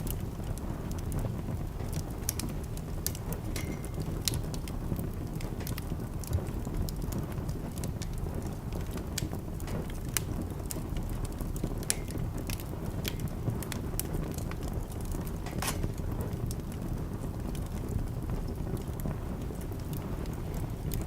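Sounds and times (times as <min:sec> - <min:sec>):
low rumble of burning: 0:00.0 - 0:21.0
sharp pops of fire: 0:00.0 - 0:21.0
wood fire crackling: 0:00.0 - 0:21.0.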